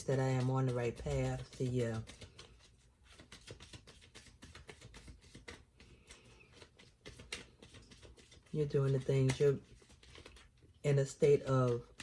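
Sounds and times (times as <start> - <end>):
cards clicking and tapping: 0.0 - 12.0.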